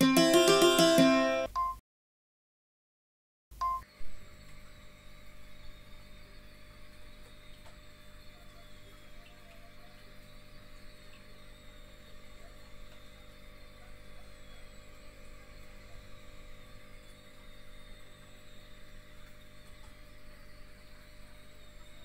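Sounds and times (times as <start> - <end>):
aquarium equipment humming: 3.6 - 22.0.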